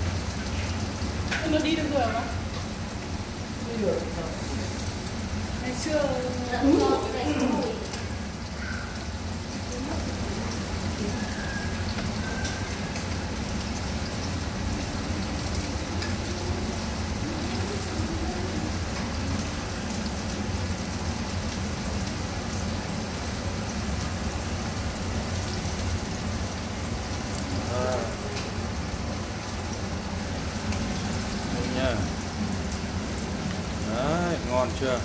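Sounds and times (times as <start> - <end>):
deep-frying sizzle with crackles: 0.0 - 35.0.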